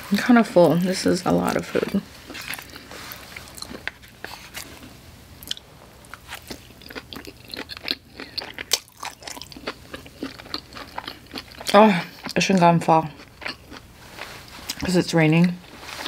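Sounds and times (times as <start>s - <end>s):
chewing with wet mouth noises: 0.6s - 14.9s.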